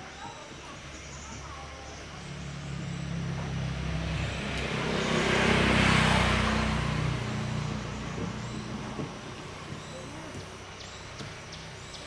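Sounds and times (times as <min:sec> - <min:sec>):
vehicle passing by: 0:01.6 - 0:11.9.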